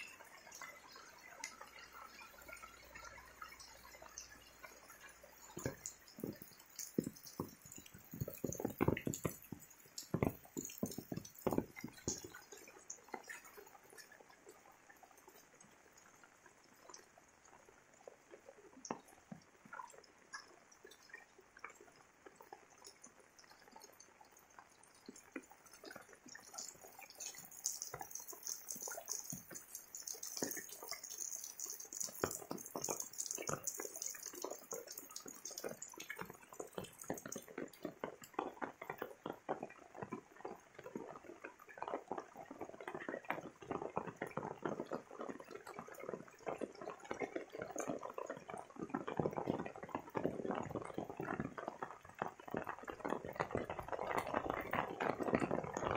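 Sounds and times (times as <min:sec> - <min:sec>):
rain falling: 0:00.0 - 0:55.9
raindrops ticking: 0:00.0 - 0:55.9.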